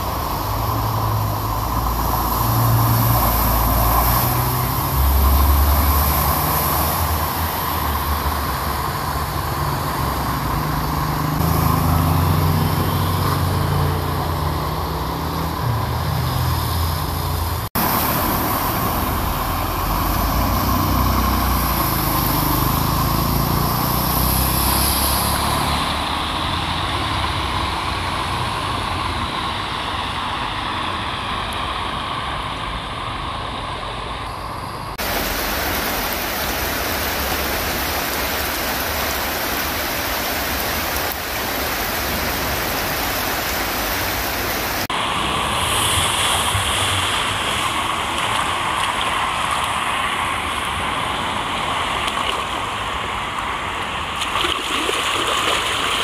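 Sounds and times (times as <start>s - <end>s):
car driving through water: 0.0s - 31.6s, 34.9s - 56.0s
heavy rain: 0.0s - 32.6s, 34.9s - 56.0s
water rushing along street: 0.0s - 56.0s.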